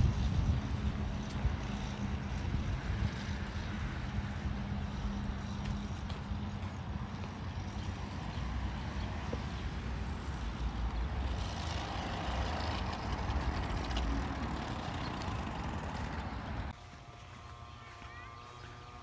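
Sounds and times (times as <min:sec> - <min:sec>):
wind rumbling on microphone: 0:00.0 - 0:16.8
two-stroke engine running: 0:00.0 - 0:19.0.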